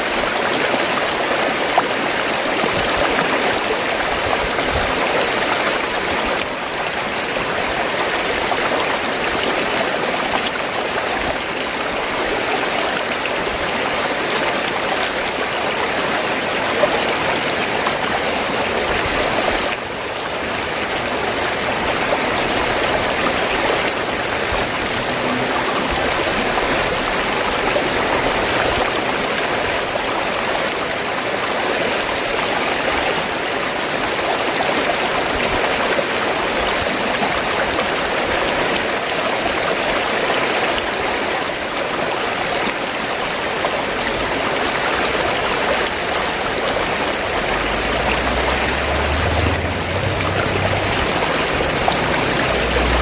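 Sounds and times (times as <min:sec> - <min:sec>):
stream water rushing and gurgling: 0:00.0 - 0:53.0.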